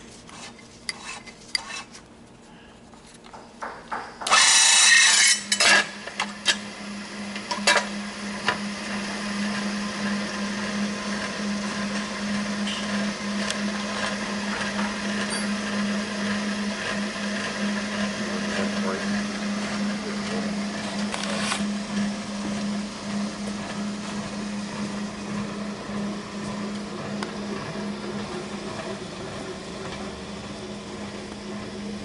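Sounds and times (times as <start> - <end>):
milling machine humming: 3.9 - 32.0.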